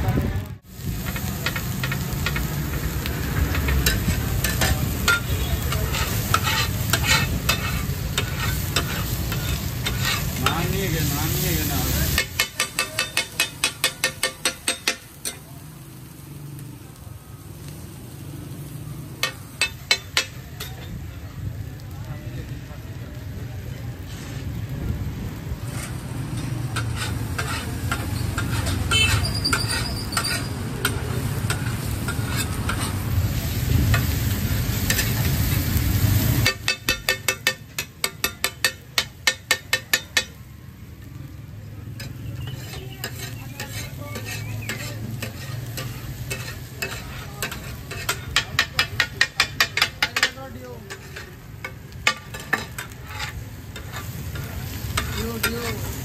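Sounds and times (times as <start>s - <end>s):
food sizzling: 0.0s - 56.0s
metal spatulas chopping on griddle: 1.0s - 15.5s, 19.2s - 21.0s, 25.6s - 40.4s, 42.0s - 56.0s.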